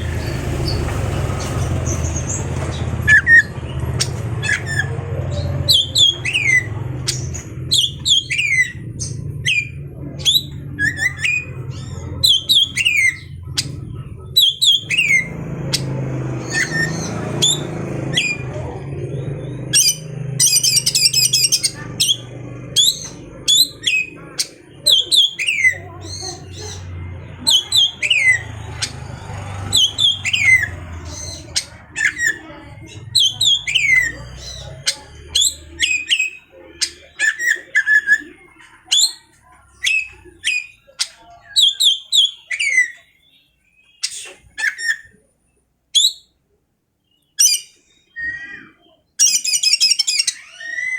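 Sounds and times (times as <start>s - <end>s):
bird trilling: 0.0s - 45.2s, 46.0s - 46.4s, 47.1s - 50.9s
bird calling: 0.0s - 45.3s, 47.1s - 50.9s.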